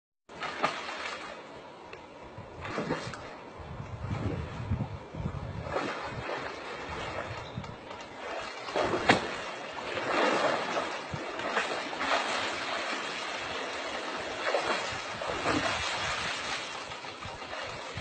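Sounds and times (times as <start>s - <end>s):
water sloshing and splashing: 0.3s - 1.6s, 2.4s - 18.0s.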